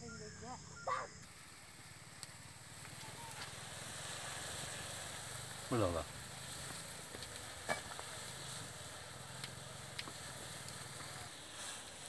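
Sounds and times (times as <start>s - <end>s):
water boiling hard: 1.2s - 12.0s.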